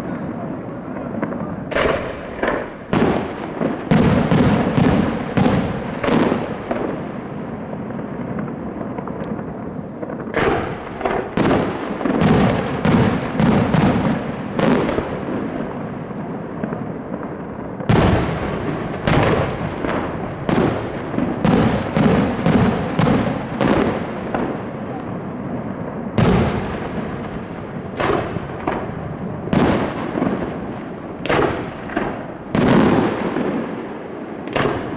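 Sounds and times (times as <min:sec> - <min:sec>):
firework bursts with echo: 0:00.0 - 0:34.9.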